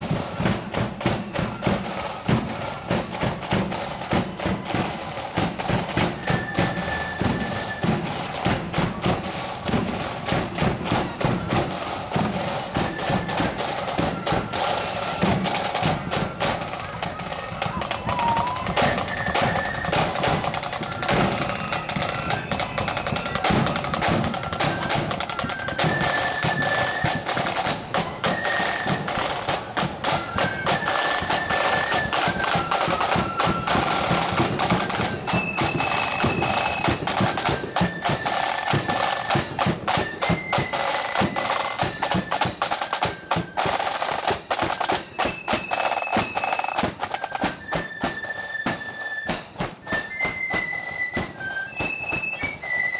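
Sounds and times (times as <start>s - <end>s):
flutes playing melody: 0.0s - 52.9s
snare drumming: 0.0s - 52.9s.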